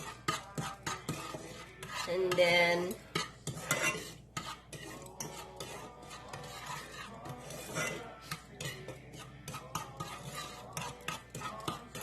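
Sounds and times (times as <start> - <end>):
utensil scraping sugar in pan: 0.0 - 12.0.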